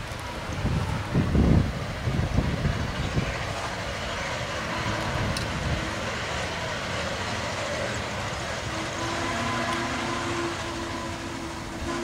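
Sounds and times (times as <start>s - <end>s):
steam locomotive exhaust: 0.0s - 12.0s
wind rumbling on microphone: 0.0s - 12.0s.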